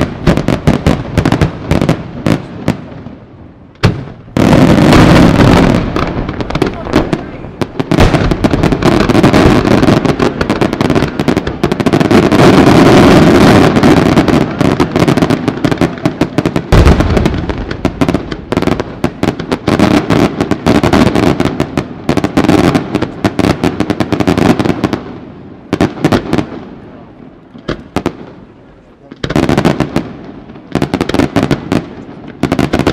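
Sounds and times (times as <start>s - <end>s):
fireworks bursting and crackling: 0.0s - 32.9s.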